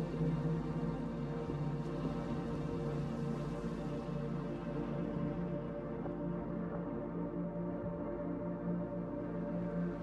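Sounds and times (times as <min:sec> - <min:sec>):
ambient music with low drones: 0:00.0 - 0:10.0.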